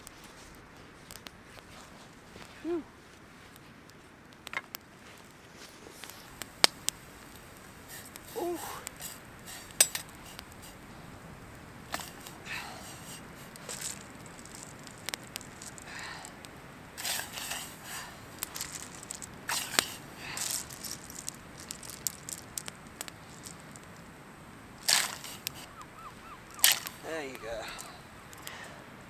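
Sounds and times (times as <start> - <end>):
fire crackling and popping: 0.0 - 29.0
rustling crunching noises: 0.0 - 29.0.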